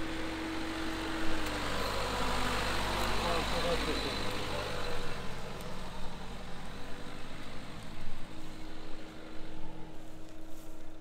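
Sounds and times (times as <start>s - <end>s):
diesel engine driving away: 0.0s - 11.0s.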